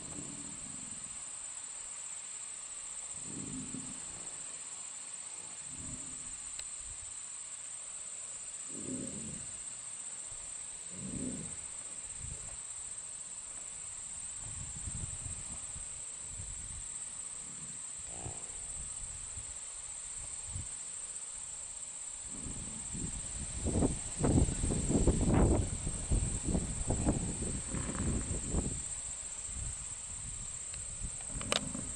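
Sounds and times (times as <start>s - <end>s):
insects trilling in grass: 0.0s - 31.9s.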